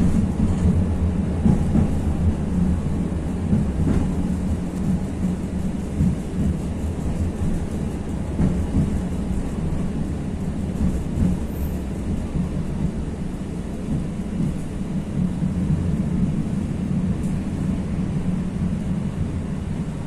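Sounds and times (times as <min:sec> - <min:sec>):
tram rumbling along track: 0:00.0 - 0:20.0.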